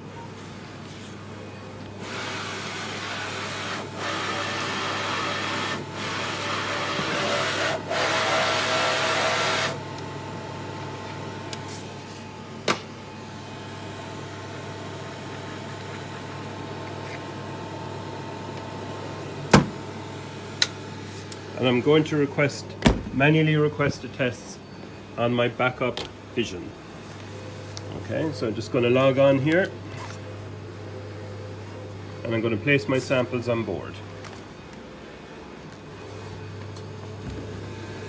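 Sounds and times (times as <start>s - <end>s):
analyser mechanical whir: 0.0s - 38.0s
machine humming: 0.0s - 38.0s.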